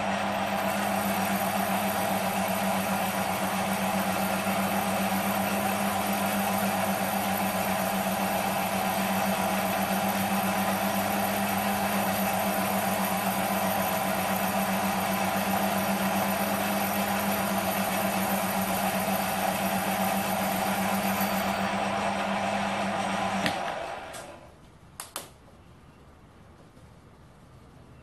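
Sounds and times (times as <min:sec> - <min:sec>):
metal lathe motor hum: 0:00.0 - 0:24.4.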